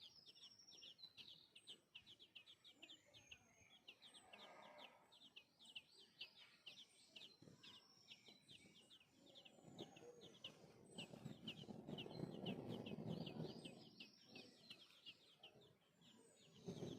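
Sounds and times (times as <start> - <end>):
baby birds chirping: 0.0 - 16.9.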